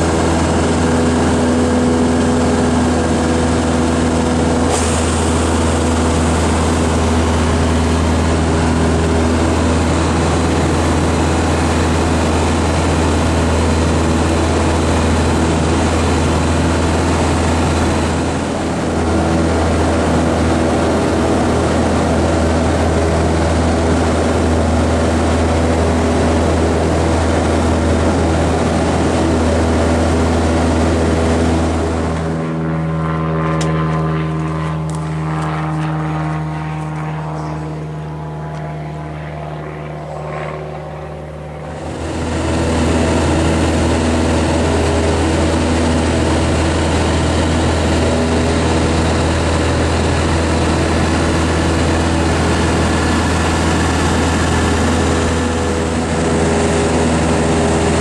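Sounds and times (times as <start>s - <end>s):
aircraft engine and propeller: 0.0s - 58.0s
low engine drone: 0.0s - 58.0s.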